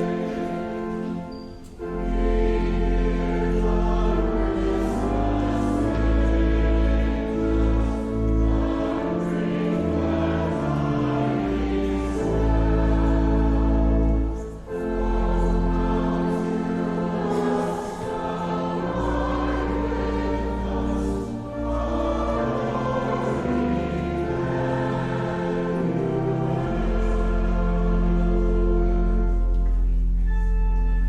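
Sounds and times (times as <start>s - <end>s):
choir singing: 0.0s - 31.0s
instrumental accompaniment: 0.0s - 31.0s.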